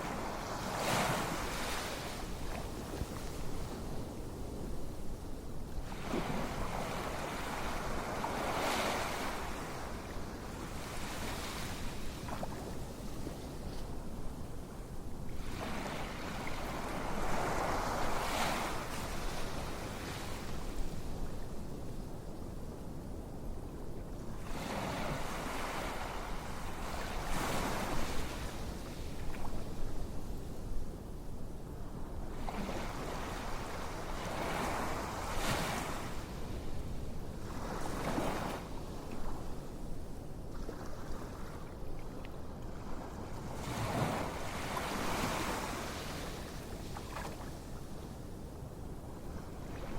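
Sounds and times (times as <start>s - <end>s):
low rumble of waves: 0.0s - 49.9s.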